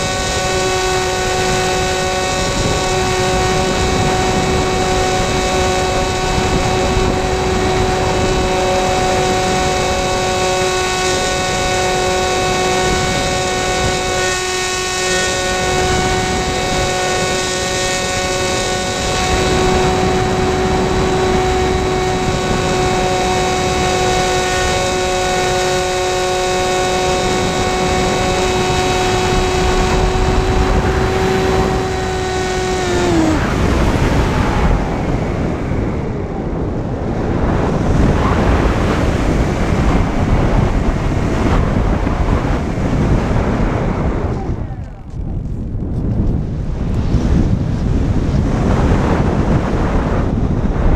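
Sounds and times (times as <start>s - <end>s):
model plane motor whining: 0.0s - 45.2s
wind rushing over microphone: 0.0s - 50.9s.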